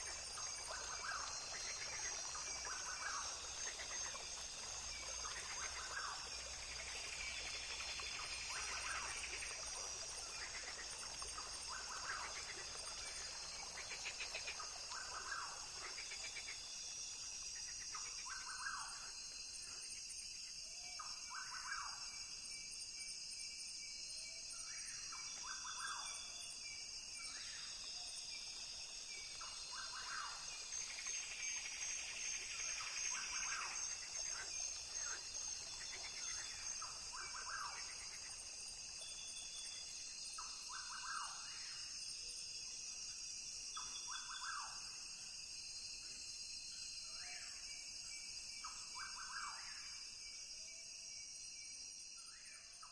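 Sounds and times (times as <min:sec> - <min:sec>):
high-pitched insect drone: 0:00.0 - 0:52.7.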